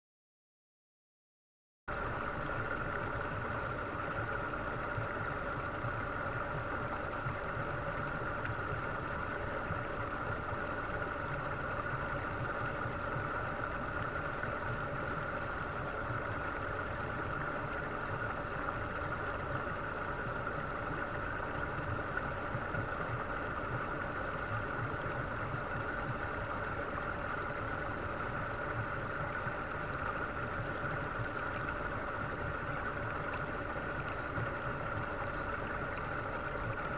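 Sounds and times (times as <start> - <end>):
aquarium pump hum underwater: 1.9 - 36.9.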